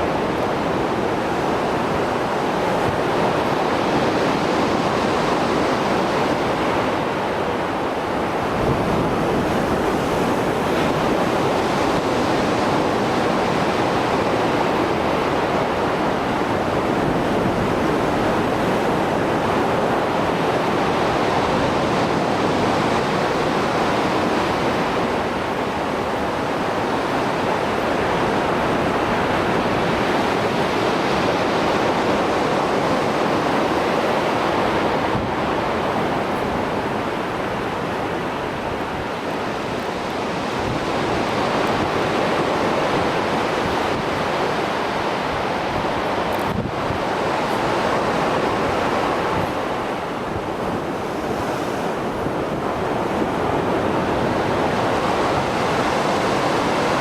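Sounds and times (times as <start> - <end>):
waves breaking on shore: 0.0 - 57.0
wind on microphone: 0.0 - 57.0.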